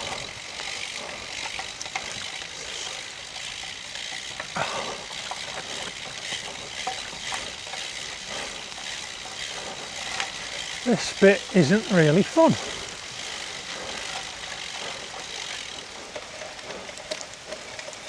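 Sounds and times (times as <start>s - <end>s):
bicycle tyres on wet gravel: 0.0s - 18.0s.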